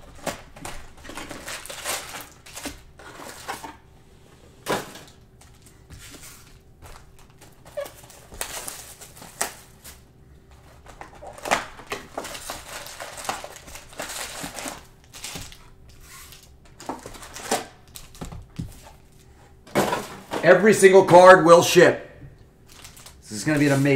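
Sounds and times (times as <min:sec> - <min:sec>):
foil packs crinkling: 0:00.0 - 0:03.8, 0:05.0 - 0:19.3, 0:22.6 - 0:23.9.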